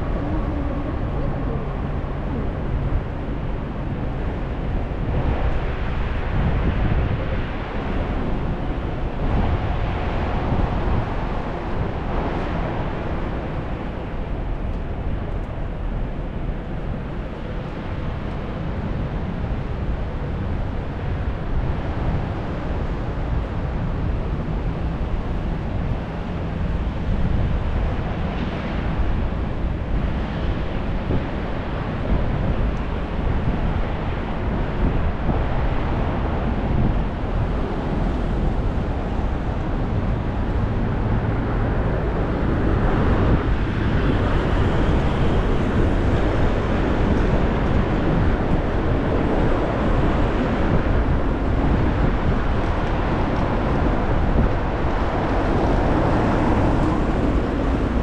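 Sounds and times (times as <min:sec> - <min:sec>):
road traffic: 0:00.0 - 0:58.0
wind on microphone: 0:00.0 - 0:58.0.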